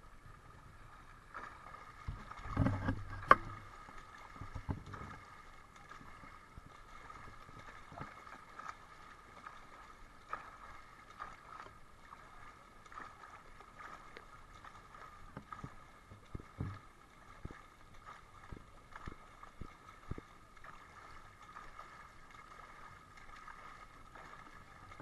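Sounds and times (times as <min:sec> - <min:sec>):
swimmer splashing: 0:00.7 - 0:25.0.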